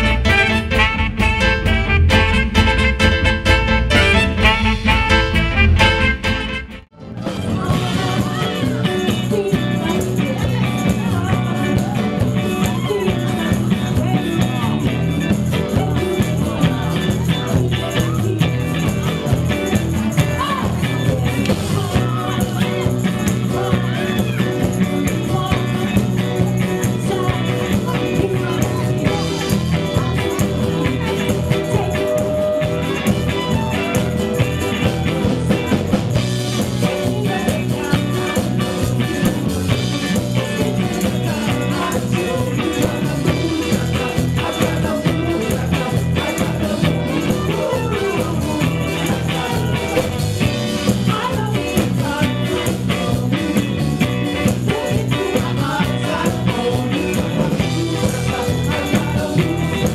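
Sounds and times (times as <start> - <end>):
live dance band playing: 0.0 - 59.9.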